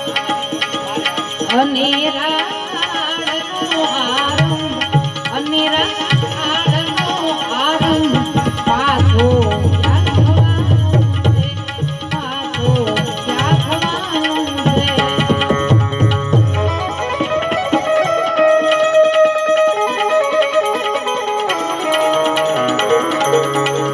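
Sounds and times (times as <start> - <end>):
sustained melody accompaniment: 0.0 - 23.9
tabla playing rhythm: 0.0 - 23.9.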